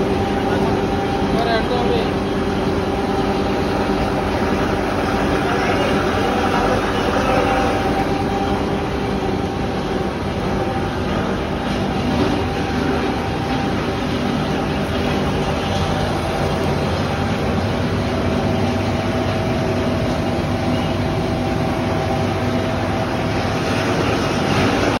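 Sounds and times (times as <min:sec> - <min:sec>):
wire granulator machine running: 0:00.0 - 0:25.0.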